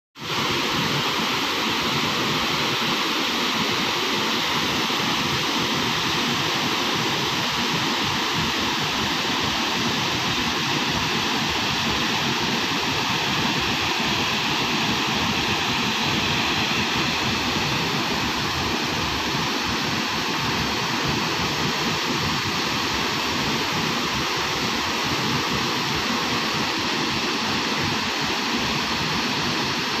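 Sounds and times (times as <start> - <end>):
waterfall rushing: 0.2 - 30.0.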